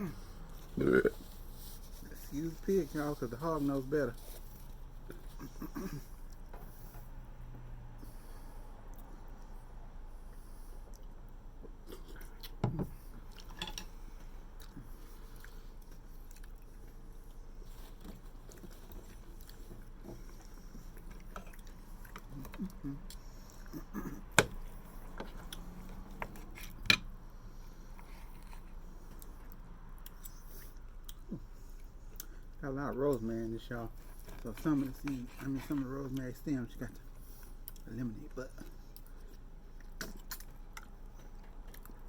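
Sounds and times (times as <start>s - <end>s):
chewing with wet mouth noises: 8.0s - 42.0s.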